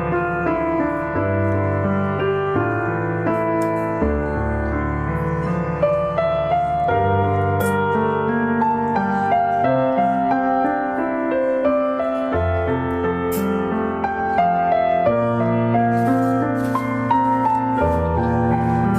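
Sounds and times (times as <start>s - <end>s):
slow piano music: 0.0s - 18.9s.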